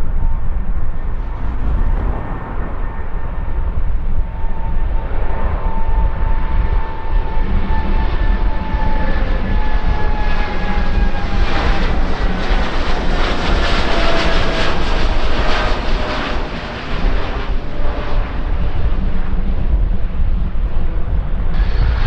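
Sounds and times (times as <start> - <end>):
jet engines passing by: 0.0 - 22.0.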